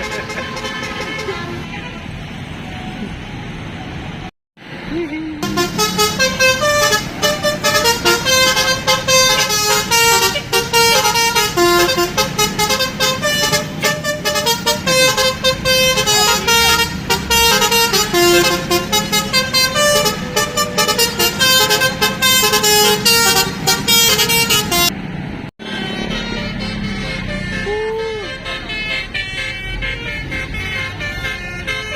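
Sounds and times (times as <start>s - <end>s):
musical bus horn melody: 0.0s - 2.2s, 5.4s - 25.0s, 25.6s - 31.9s.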